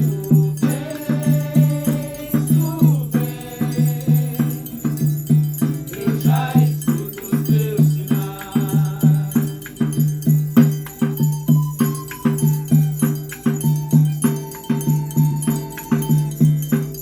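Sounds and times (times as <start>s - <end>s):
ringing chime-like tones: 0.0s - 17.0s.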